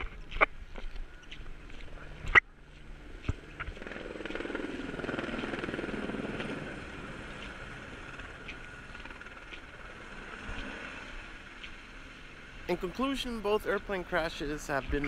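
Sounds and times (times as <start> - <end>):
helicopter flying past: 1.6 - 15.0.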